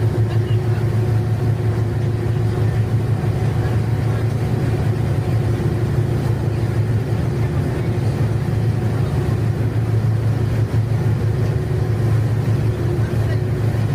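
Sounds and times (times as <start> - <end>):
ship engine low drone: 0.0 - 13.9.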